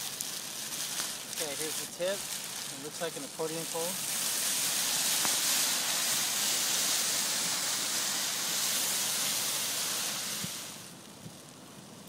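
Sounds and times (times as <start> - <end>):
nylon canopy rustling and crinkling: 0.0 - 11.4.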